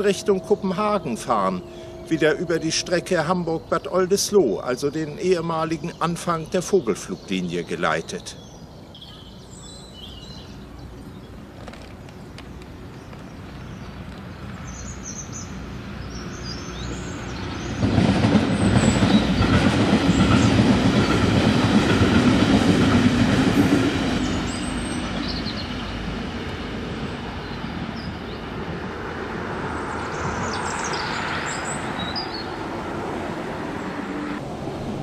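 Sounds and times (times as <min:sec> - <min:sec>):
diesel train passing by: 0:00.0 - 0:08.7, 0:12.9 - 0:35.0.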